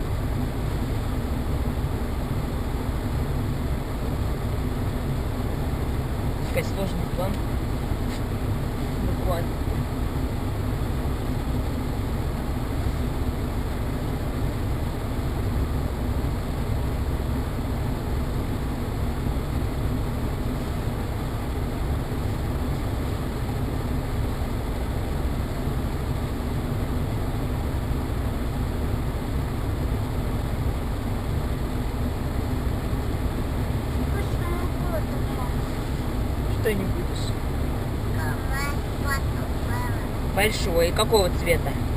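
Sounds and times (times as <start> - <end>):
car road and engine noise: 0.0 - 41.9
constant low hum: 0.0 - 41.9.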